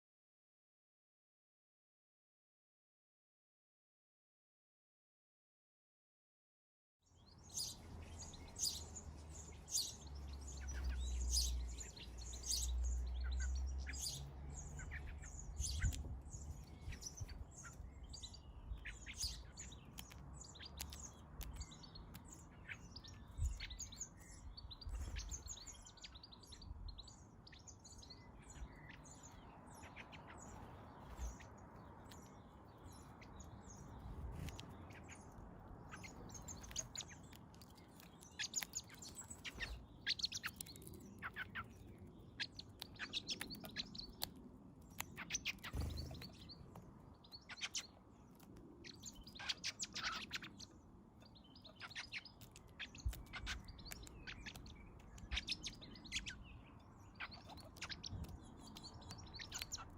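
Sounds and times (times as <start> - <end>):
small birds chirping: 7.1 - 59.9.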